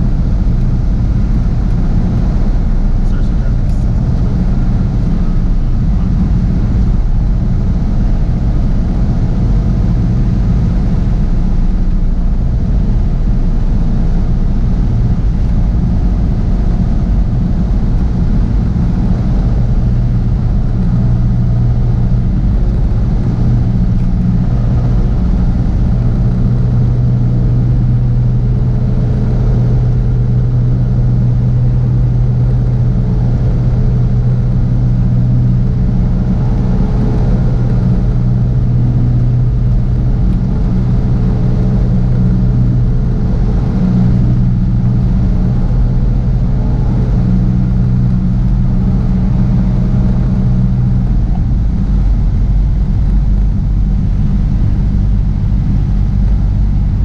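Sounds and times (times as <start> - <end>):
aircraft engine droning: 0.0 - 57.0
airflow noise in cabin: 0.0 - 57.0.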